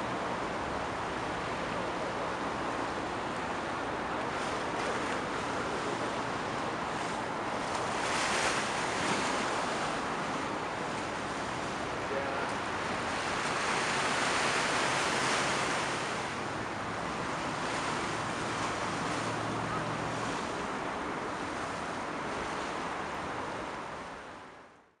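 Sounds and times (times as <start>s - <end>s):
waves rushing: 0.0s - 24.8s.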